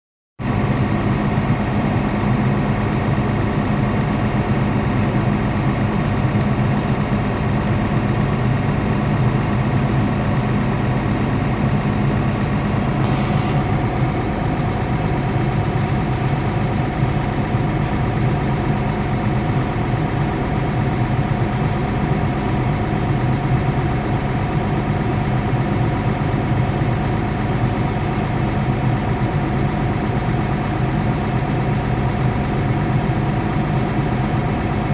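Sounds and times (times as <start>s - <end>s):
diesel engine idling: 0.5s - 34.9s.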